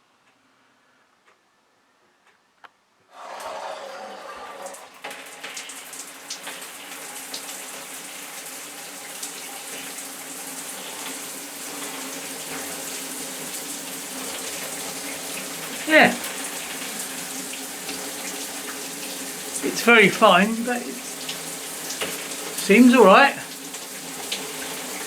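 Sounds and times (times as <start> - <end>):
shower water spraying: 3.2 - 25.0.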